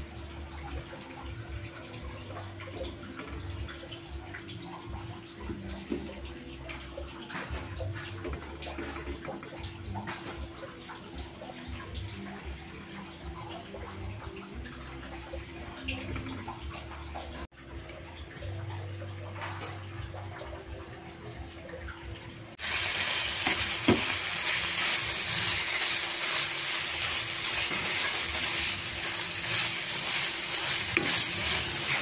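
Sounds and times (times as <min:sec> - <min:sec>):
pot simmering and bubbling: 0:00.0 - 0:32.0.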